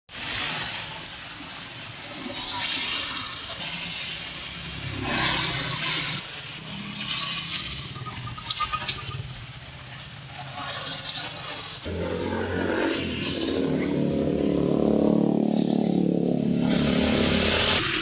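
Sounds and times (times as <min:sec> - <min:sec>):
rain falling: 0:00.1 - 0:18.0.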